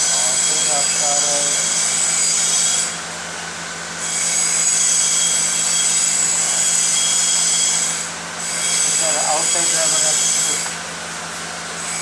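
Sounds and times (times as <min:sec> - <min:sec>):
machine whirring with high whine: 0:00.0 - 0:12.0.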